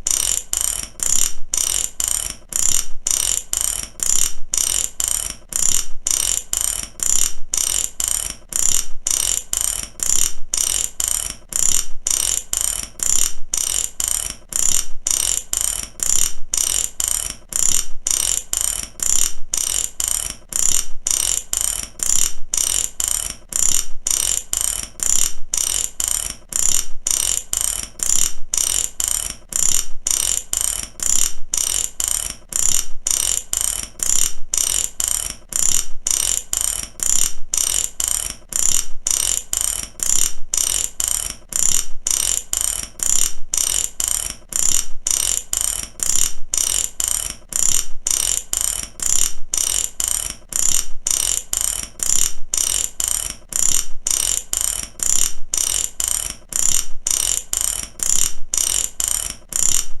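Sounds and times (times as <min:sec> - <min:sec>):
ratchet wrench clicking: 0:00.0 - 1:00.0.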